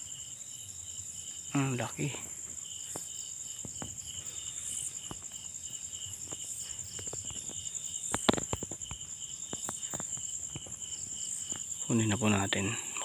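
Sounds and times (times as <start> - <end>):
insects fast chirping: 0.0 - 13.0
insects pulsing trill: 0.0 - 13.0.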